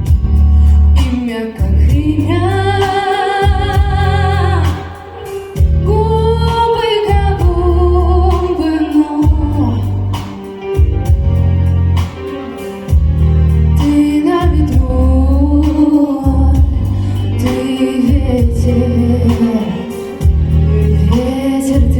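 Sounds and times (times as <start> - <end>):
musical accompaniment with pulsing bass: 0.0 - 21.9
woman singing with vibrato: 0.8 - 10.4, 13.8 - 21.9.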